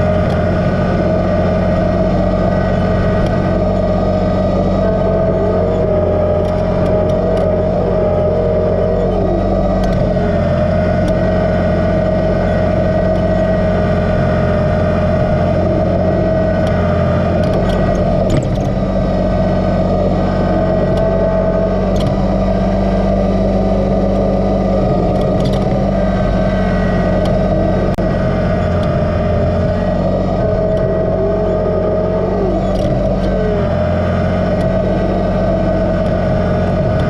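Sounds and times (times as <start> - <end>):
steady whine: 0.0 - 37.0
tractor diesel engine running: 0.0 - 37.0.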